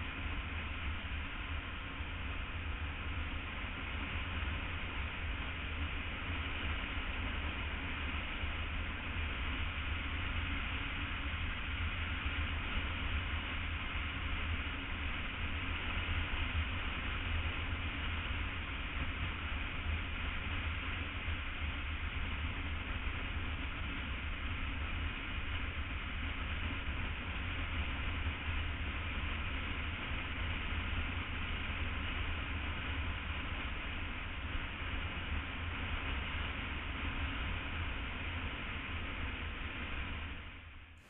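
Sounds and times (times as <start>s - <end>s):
motorcycle engine and wind noise: 0.0s - 40.8s.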